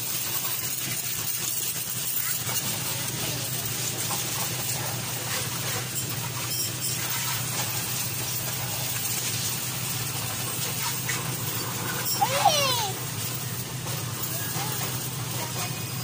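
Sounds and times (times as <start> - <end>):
pressure washer spraying: 0.0 - 16.0.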